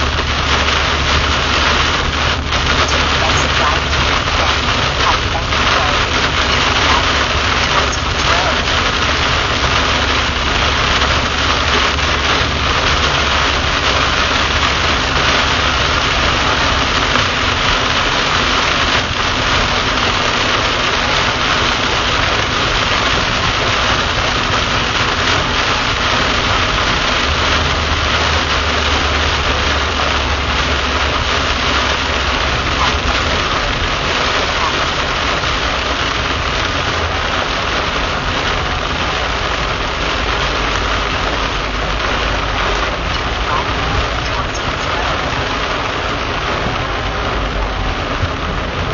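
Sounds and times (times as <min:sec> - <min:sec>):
heavy rain on car: 0:00.0 - 0:48.9
low engine hum: 0:00.0 - 0:48.9
tyre noise on wet road: 0:00.0 - 0:48.9.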